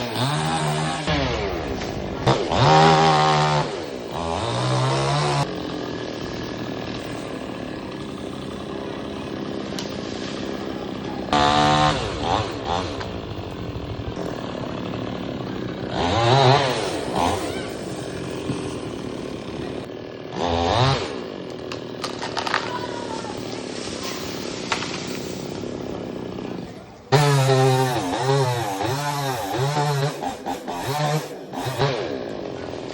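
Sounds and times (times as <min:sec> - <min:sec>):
chainsaw revving: 0:00.0 - 0:32.9.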